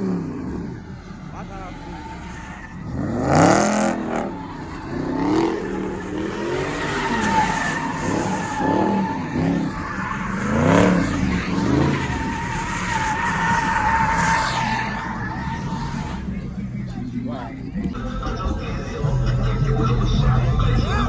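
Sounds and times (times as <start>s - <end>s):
tyres squealing on pavement: 0.0s - 17.9s
car engine revving: 0.0s - 21.0s.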